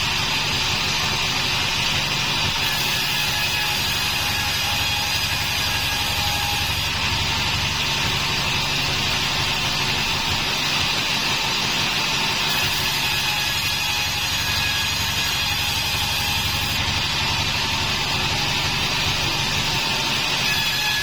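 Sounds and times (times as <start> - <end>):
band sawmill running: 0.0 - 21.0.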